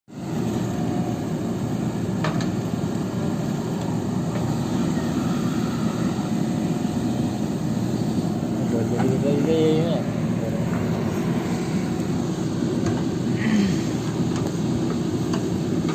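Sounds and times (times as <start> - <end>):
diesel engine running: 0.1 - 15.9.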